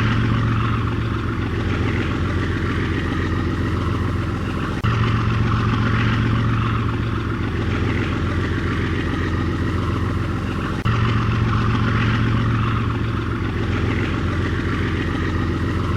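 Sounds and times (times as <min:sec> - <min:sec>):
diesel locomotive engine rumble: 0:00.0 - 0:15.9.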